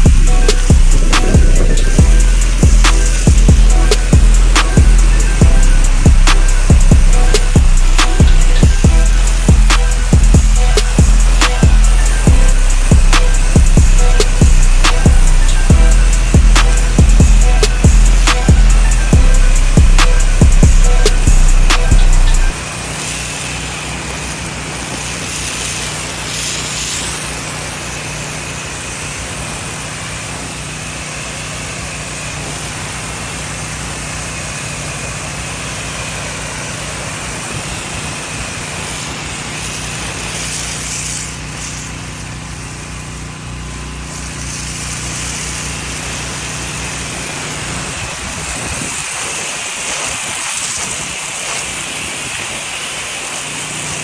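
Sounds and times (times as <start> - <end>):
pressure washer engine running: 0.0 - 54.0
water spray hissing: 0.0 - 54.0.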